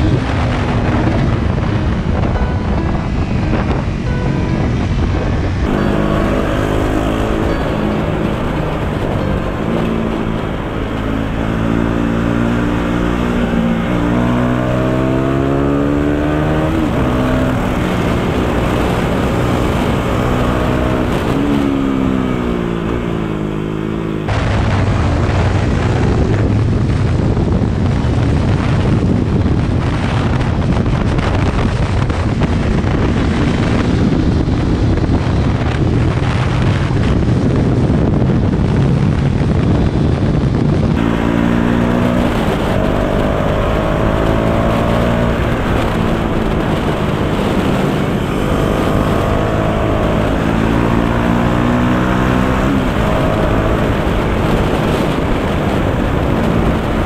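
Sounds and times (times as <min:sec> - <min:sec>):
heavy wind noise: 0:00.0 - 0:57.0
motorcycle engine accelerating: 0:00.0 - 0:57.0
motorcycle engine drone: 0:00.0 - 0:57.0.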